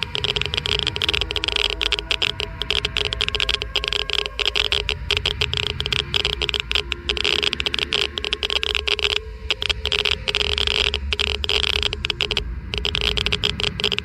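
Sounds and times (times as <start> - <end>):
geiger counter clicking rapidly: 0.0 - 14.0
steady low hum: 0.0 - 14.0.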